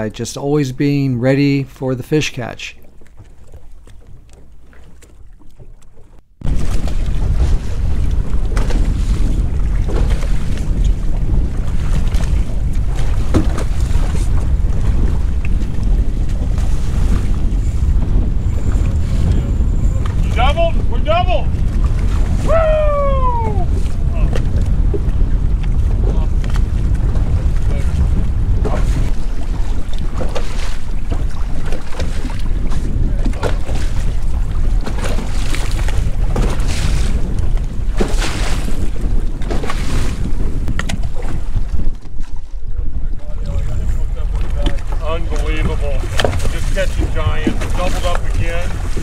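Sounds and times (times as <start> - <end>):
choppy water: 0.0 - 49.0
wind buffeting microphone: 2.9 - 49.0.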